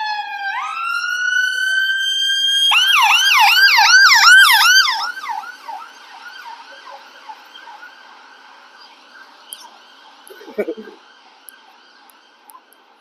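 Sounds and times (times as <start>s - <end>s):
ambulance siren: 0.0s - 13.0s.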